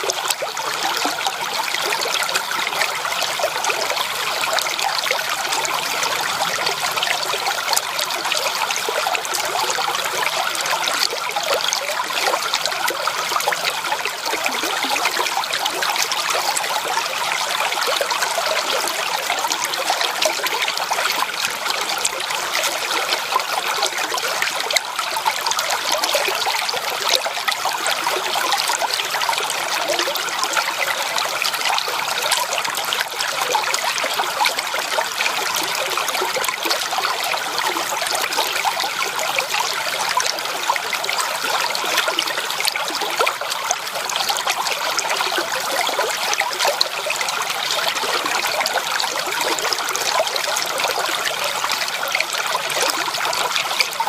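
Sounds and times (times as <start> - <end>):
creek trickling over stones: 0.0 - 54.0.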